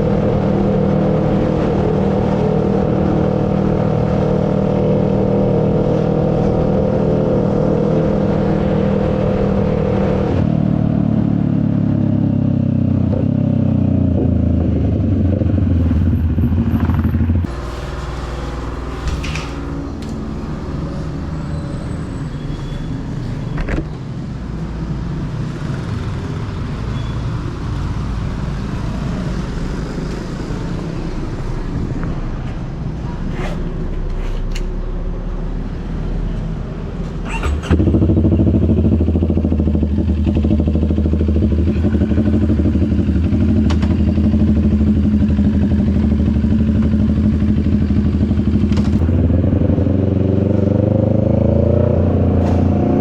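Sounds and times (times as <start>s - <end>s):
motorcycle engine running: 0.0s - 21.7s, 32.2s - 53.0s.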